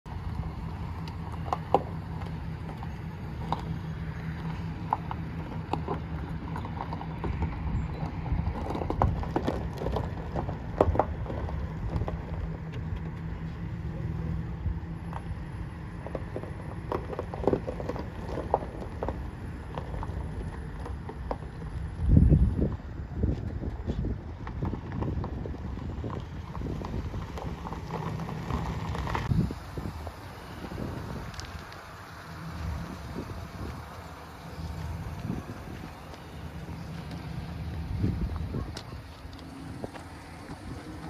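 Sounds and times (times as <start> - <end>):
truck engine running at low speed: 0.0 - 41.0
tyres crunching on gravel: 0.1 - 41.0.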